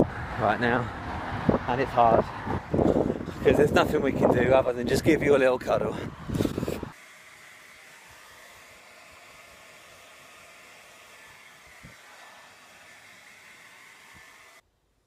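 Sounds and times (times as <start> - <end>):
hair dryer blowing: 0.0 - 14.6.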